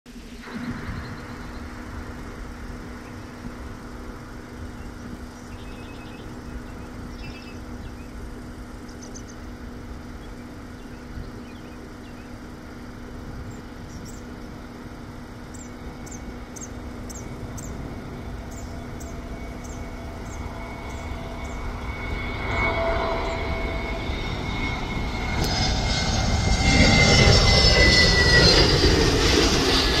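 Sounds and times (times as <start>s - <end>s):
jet engine rumble: 0.1s - 30.0s
jet engine whine falling in pitch: 0.1s - 30.0s.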